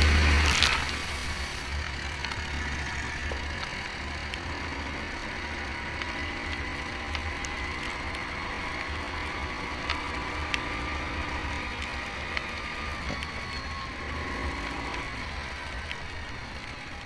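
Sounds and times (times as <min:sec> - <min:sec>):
atv engine running: 0:00.0 - 0:17.0
tyres on gravel: 0:00.0 - 0:17.0.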